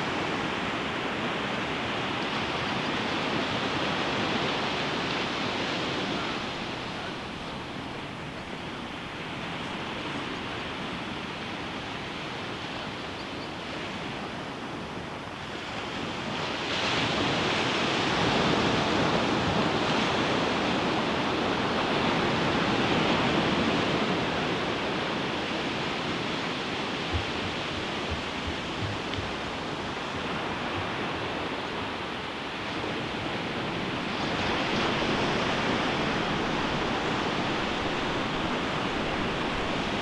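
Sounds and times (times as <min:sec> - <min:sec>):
ocean surf breaking on beach: 0:00.0 - 0:13.1, 0:13.7 - 0:40.0.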